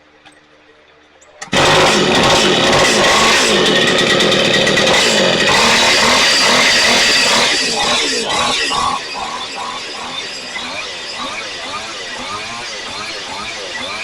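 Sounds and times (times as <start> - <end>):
string trimmer engine running: 1.4 - 14.0.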